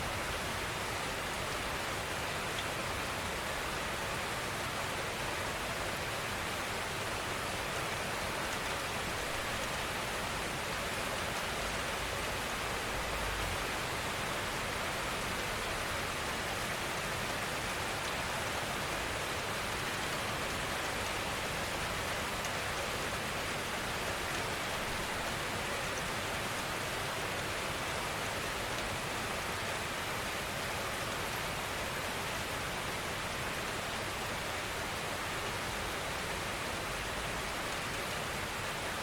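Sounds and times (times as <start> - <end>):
gentle rain hiss: 0.0 - 39.0.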